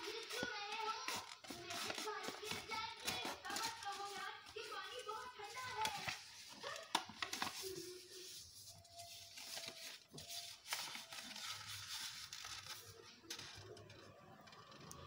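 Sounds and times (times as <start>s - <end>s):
paper crackles: 0.0s - 13.9s
paper rustling and folding: 0.0s - 13.9s.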